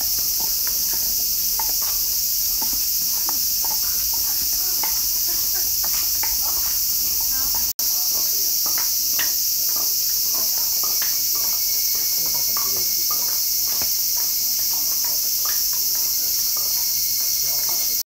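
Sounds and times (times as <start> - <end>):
faint voices: 0.0 - 8.6, 10.2 - 13.8, 14.4 - 18.0
cicadas shrilling: 0.0 - 18.0.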